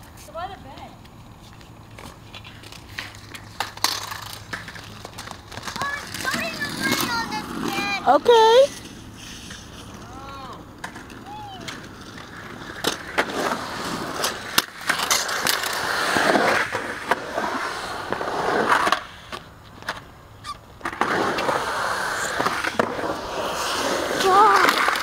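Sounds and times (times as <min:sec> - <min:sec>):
skateboard wheels rolling on concrete: 0:00.0 - 0:25.0
skateboard clacking on concrete: 0:00.6 - 0:25.0.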